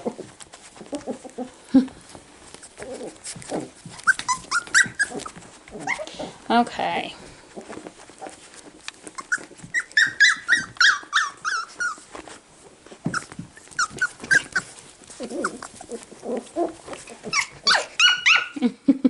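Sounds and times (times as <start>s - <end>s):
puppies whining and yipping: 0.0s - 6.4s, 7.6s - 18.7s
puppies growling playfully: 0.0s - 6.5s, 7.4s - 18.9s.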